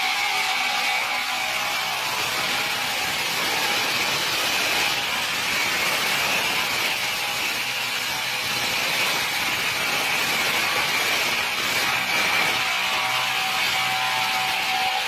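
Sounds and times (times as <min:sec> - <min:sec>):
circular saw cutting a log: 0:00.0 - 0:15.0.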